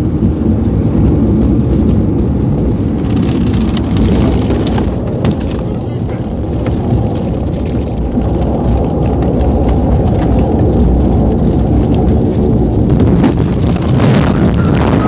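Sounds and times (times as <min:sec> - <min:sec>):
aircraft cabin rumble and rattle: 0:00.0 - 0:15.0.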